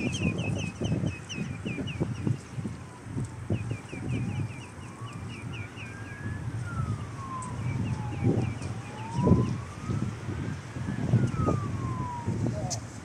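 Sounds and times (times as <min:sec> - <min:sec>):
siren wailing: 0:00.0 - 0:13.0
wind on microphone: 0:00.0 - 0:13.0.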